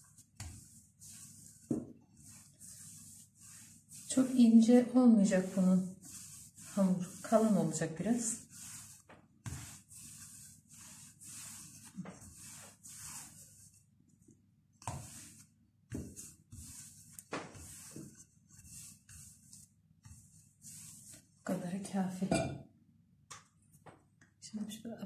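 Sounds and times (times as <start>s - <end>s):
rolling pin rubbing over dough: 0.0s - 14.0s, 14.8s - 21.7s.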